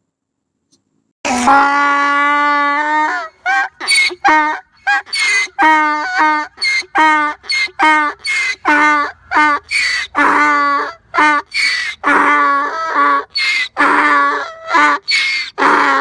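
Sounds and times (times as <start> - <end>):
animal calling: 1.3 - 16.0.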